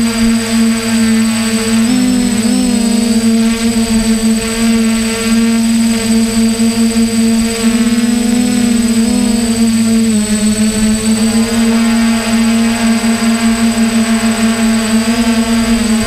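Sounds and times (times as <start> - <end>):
drone rotors humming: 0.0 - 16.0.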